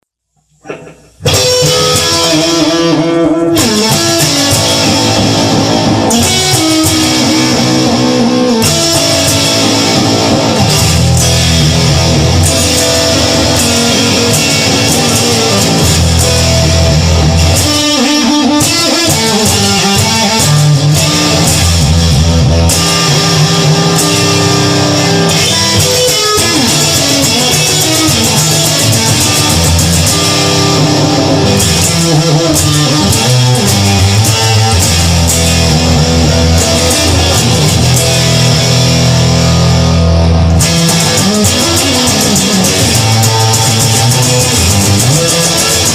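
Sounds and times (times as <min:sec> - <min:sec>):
bass guitar: 0:00.4 - 0:45.9
electric guitar: 0:00.4 - 0:45.9.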